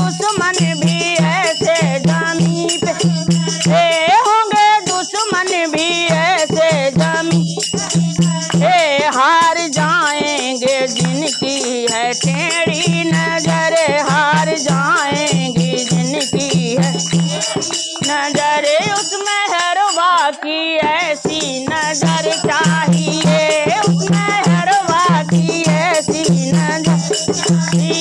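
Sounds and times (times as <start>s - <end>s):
small hand cymbals: 0.0s - 28.0s
women singing devotional song: 0.0s - 28.0s.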